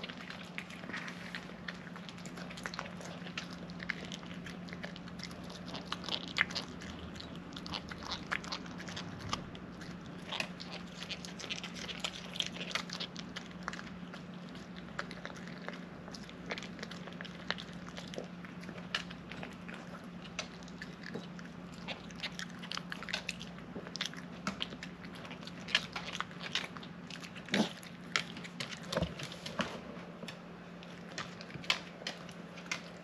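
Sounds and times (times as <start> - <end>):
dog chewing and crunching food: 0.0 - 33.0.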